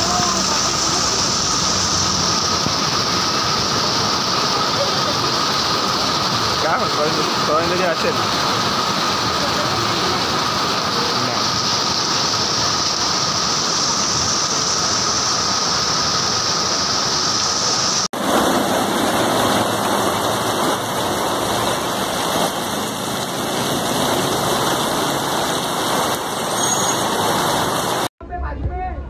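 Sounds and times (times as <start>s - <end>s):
heavy rain pouring: 0.0s - 28.1s.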